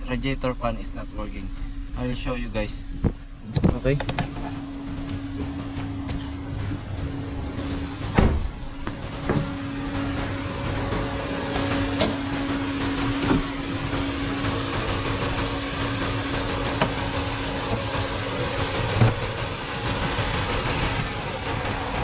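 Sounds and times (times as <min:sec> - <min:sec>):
car engine idling: 0:00.0 - 0:22.0
electric fan whirring: 0:00.0 - 0:22.0.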